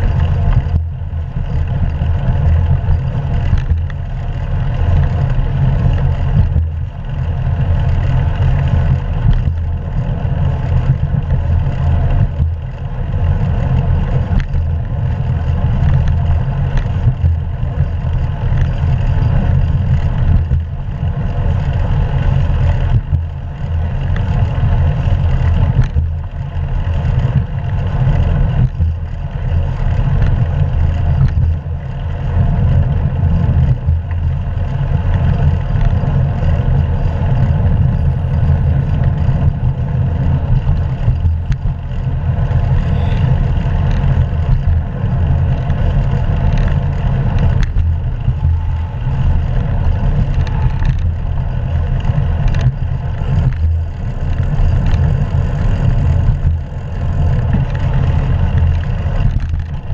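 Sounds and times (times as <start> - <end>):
bike tyres humming on road: 0.0 - 59.9
wind rumbling over microphone: 0.0 - 59.9.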